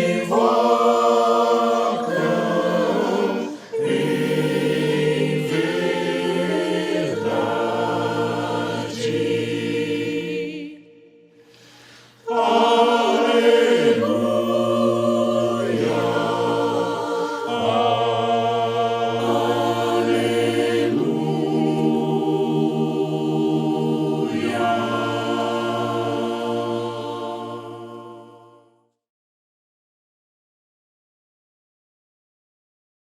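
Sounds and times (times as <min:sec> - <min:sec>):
choir singing a hymn a cappella: 0:00.0 - 0:28.9.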